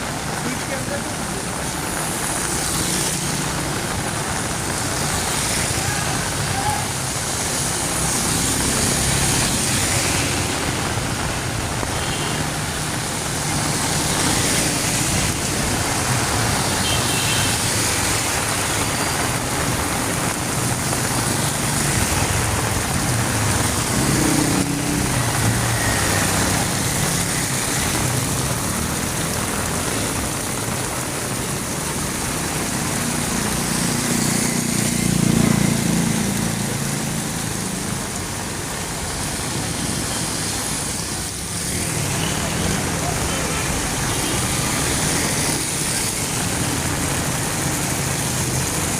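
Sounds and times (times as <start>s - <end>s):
heavy rain on street: 0.0s - 48.9s
vehicles passing on wet road: 0.0s - 48.9s.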